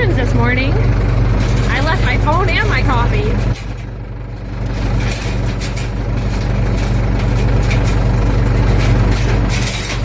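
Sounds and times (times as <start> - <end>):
backhoe engine running: 0.0 - 10.0.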